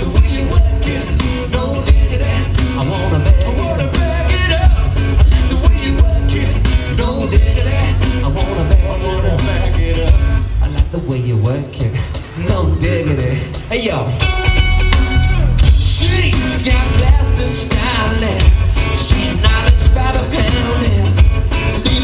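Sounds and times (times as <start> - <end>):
drums: 0.0 - 22.0
heavy electric bass line: 0.0 - 22.0
live rock band playing: 0.0 - 22.0.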